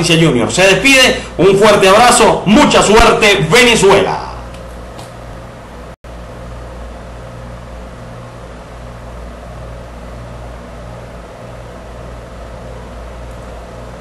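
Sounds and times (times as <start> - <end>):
background hum with hiss: 0.0 - 14.0.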